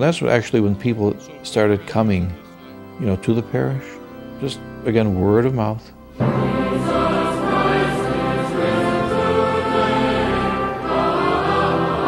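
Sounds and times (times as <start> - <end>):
choir singing held chords: 0.2 - 12.0.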